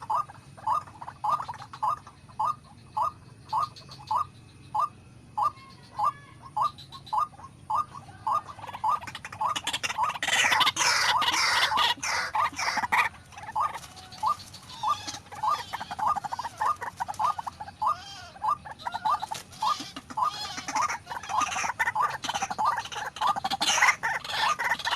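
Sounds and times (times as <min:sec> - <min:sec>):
waterhen calling: 0:00.0 - 0:24.9.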